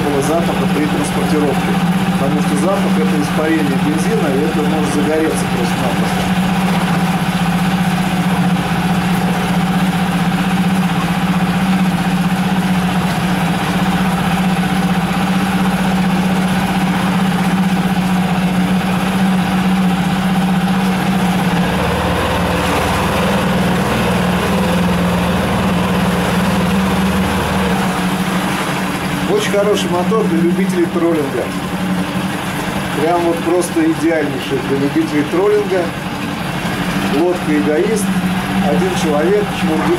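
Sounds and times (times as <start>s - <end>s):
outboard engine idling: 0.0s - 39.9s.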